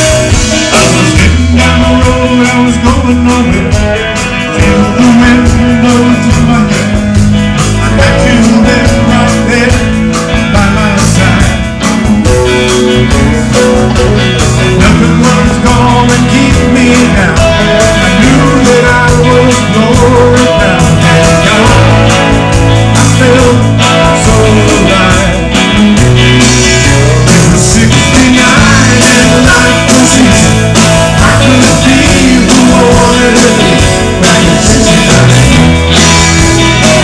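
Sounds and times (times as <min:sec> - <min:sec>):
electric guitars: 0:00.0 - 0:37.0
steady drum beat: 0:00.0 - 0:37.0.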